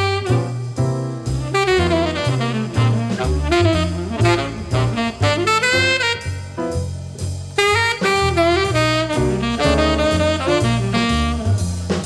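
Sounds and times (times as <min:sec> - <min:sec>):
saxophone melody: 0:00.0 - 0:00.8, 0:01.4 - 0:06.8, 0:07.6 - 0:11.9
jazz bass line: 0:00.0 - 0:12.0.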